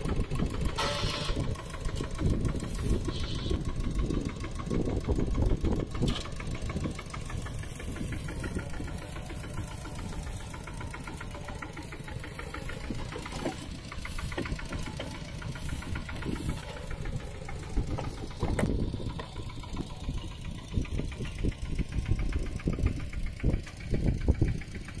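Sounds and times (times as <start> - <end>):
tractor engine knocking: 0.0 - 25.0.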